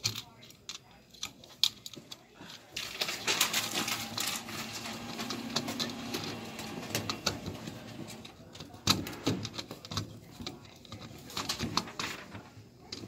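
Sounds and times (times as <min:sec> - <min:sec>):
plastic clicks and scrapes: 0:00.0 - 0:13.0
rustling and crackling: 0:00.0 - 0:13.0.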